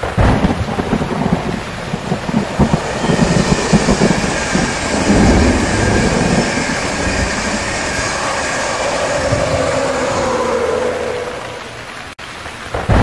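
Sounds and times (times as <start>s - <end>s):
locomotive whine: 0.0s - 12.2s
train coaches rumbling: 0.0s - 12.2s
rain hiss: 0.0s - 13.0s.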